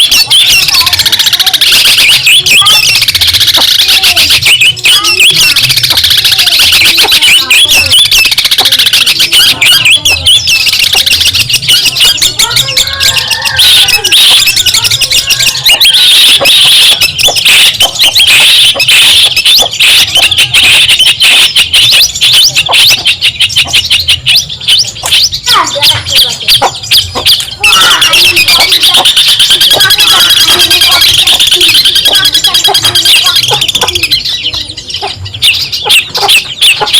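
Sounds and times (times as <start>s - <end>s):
bird singing scratchy chattering: 0.0s - 36.9s.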